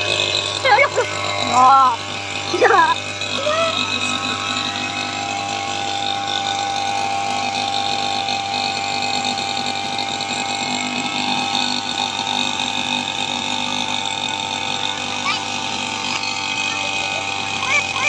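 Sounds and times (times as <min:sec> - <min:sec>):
brush cutter engine running: 0:00.0 - 0:18.0.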